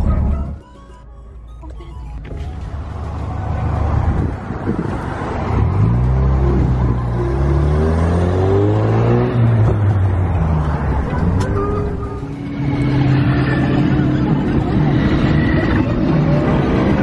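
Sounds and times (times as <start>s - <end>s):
road noise: 0.0s - 17.0s
car engine accelerating: 2.0s - 17.0s.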